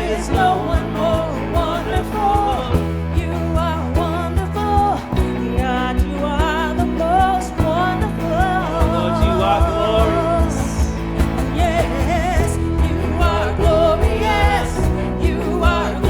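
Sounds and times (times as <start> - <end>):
bass: 0.0 - 16.0
live band playing: 0.0 - 16.0
person singing: 0.0 - 16.0
steady drum beat: 0.0 - 16.0.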